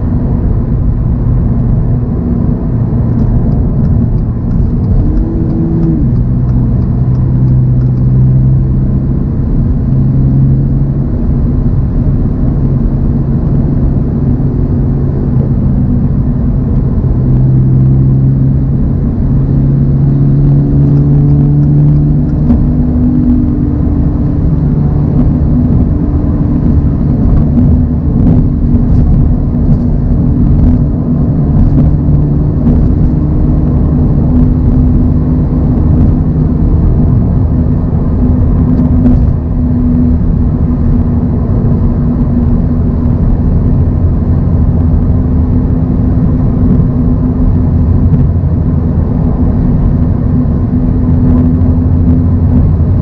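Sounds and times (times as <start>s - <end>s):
car engine cruising: 0.0s - 53.0s
road and tyre noise: 0.0s - 53.0s.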